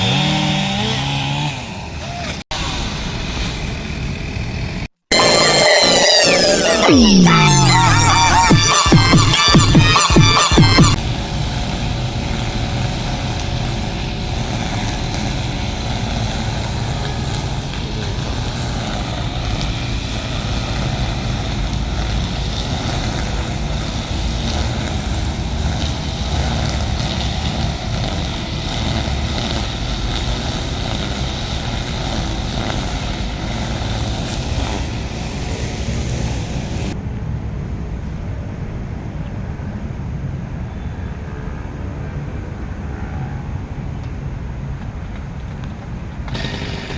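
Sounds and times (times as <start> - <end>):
chainsaw engine running: 0.0 - 37.0, 46.2 - 46.9.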